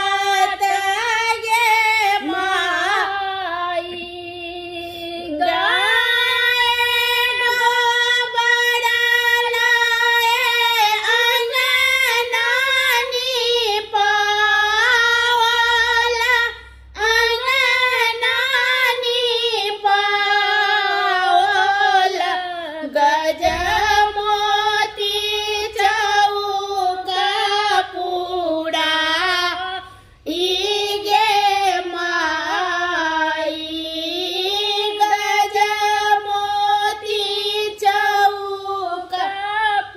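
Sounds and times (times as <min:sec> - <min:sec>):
women singing without instruments: 0:00.0 - 0:39.9.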